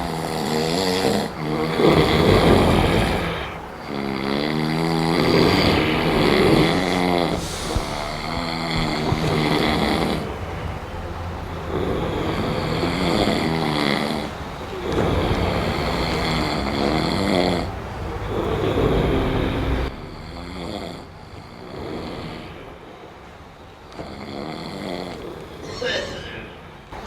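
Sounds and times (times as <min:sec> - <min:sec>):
person snoring: 0:00.0 - 0:10.9, 0:11.5 - 0:22.9, 0:23.9 - 0:26.6.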